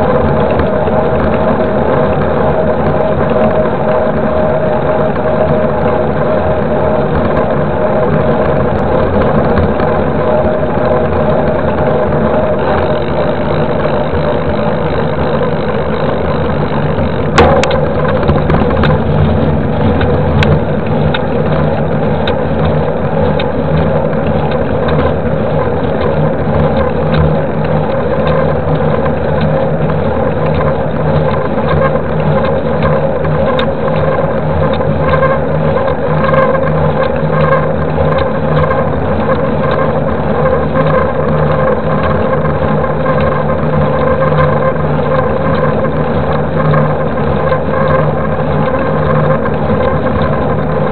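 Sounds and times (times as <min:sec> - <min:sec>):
bike tyres on asphalt: 0:00.0 - 0:50.9
wind noise: 0:00.0 - 0:50.9.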